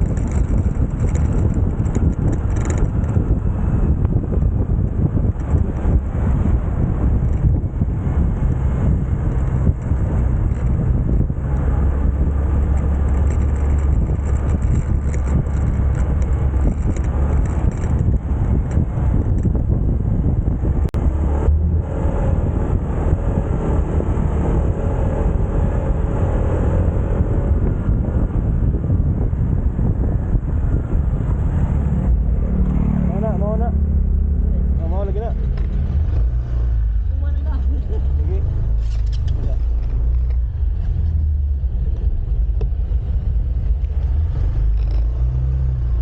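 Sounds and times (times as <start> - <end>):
wind buffeting on microphone: 0.0 - 46.0.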